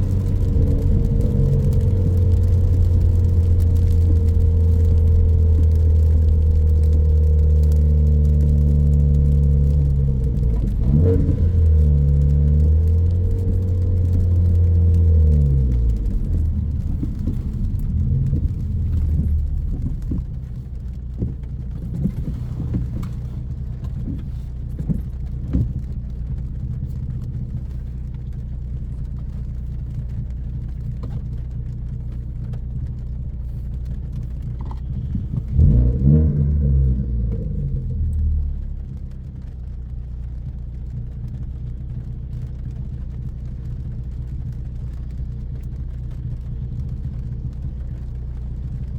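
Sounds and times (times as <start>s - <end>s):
car engine droning while cruising: 0.0s - 48.9s.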